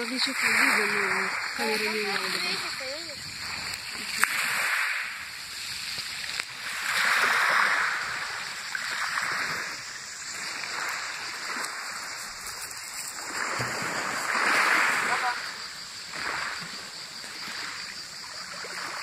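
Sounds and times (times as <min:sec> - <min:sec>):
small waves on a pebble beach: 0:00.0 - 0:19.0.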